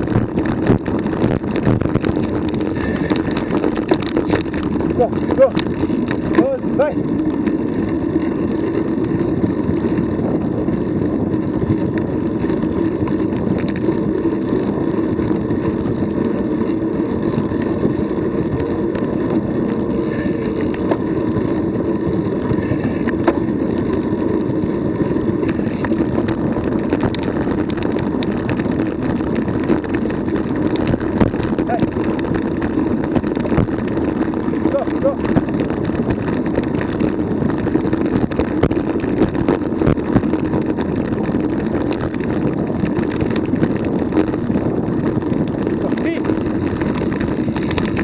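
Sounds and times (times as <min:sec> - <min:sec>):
wind rushing over microphone: 0:00.0 - 0:48.0.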